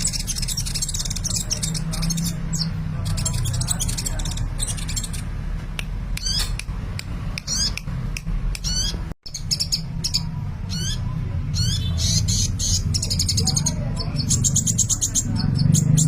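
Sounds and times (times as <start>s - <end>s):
bird chirping and trilling: 0.0s - 5.5s, 6.1s - 6.7s, 7.3s - 16.0s.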